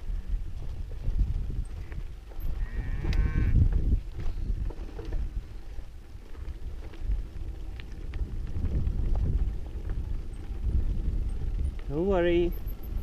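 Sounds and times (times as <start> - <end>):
faint bike clicks and rattles: 0.0 - 13.0
low wind and riding rumble: 0.0 - 13.0.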